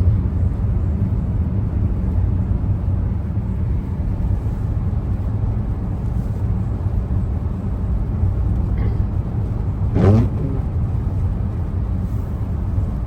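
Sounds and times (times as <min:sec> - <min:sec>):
car driving on highway: 0:00.0 - 0:13.0.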